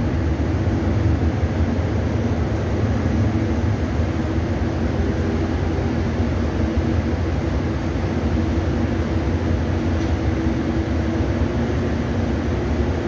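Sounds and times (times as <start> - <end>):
boat engines droning: 0.0 - 13.0.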